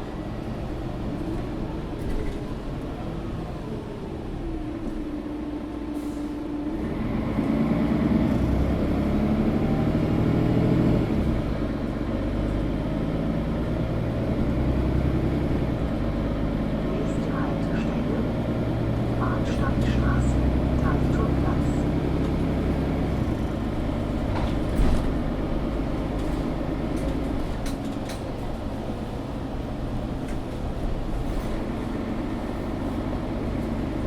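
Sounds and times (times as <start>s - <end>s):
bus engine from inside cabin: 0.0s - 34.0s.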